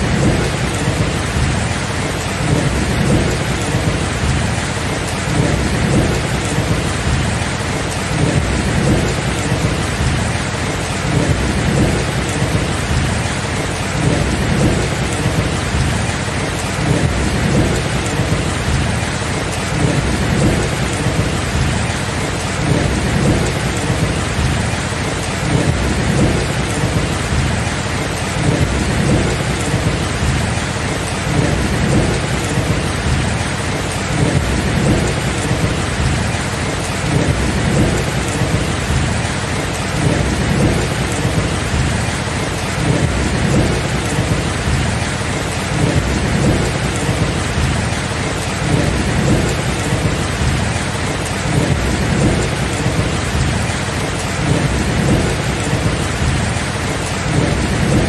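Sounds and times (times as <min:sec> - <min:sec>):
low rumble of thunder: 0:00.0 - 0:58.0
steady rain falling: 0:00.0 - 0:58.0.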